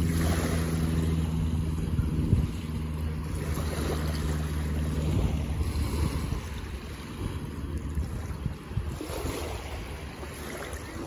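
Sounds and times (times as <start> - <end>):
engine humming: 0.0 - 11.0
waves washing onto beach: 0.0 - 11.0.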